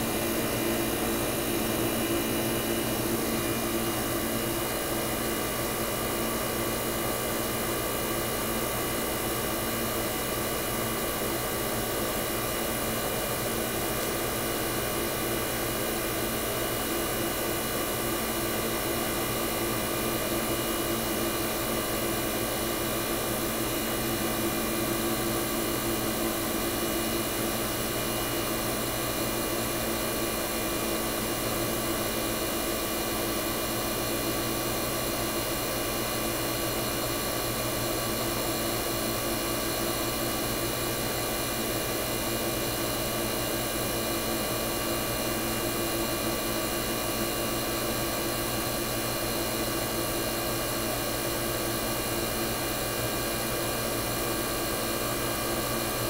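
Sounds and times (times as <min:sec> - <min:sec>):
air conditioner compressor humming: 0:00.0 - 0:56.0.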